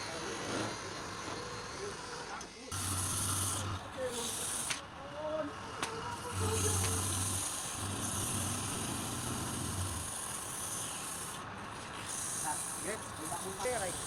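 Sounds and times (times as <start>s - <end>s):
sanding hiss on spinning wood: 0.0s - 14.0s
low motor hum: 2.7s - 14.0s.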